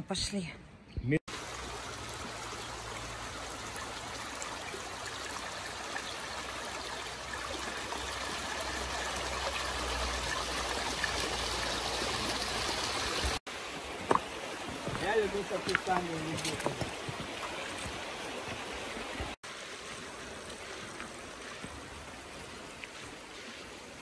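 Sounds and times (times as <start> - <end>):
river running over rocks: 1.3 - 24.0.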